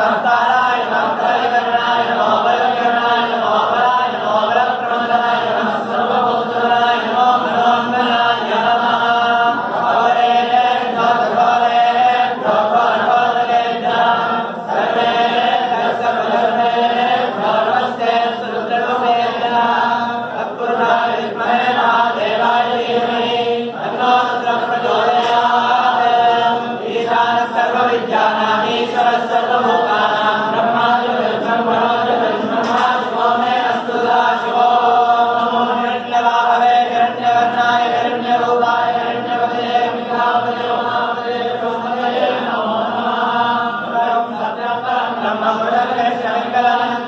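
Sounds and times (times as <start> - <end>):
men chanting in unison: 0.0 - 47.0.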